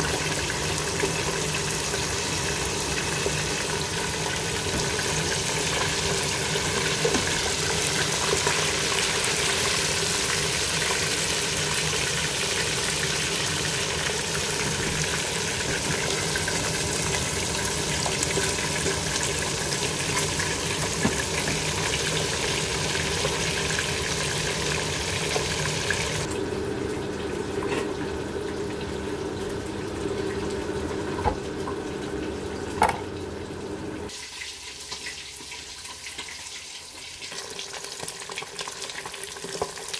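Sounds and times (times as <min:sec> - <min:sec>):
fish sizzling in hot oil: 0:00.0 - 0:26.3, 0:34.1 - 0:39.9.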